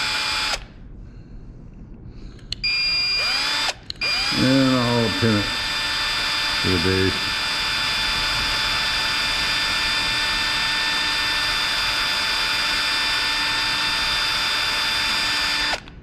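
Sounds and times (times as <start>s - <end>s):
electric drill whining: 0.0s - 0.7s, 2.6s - 16.0s.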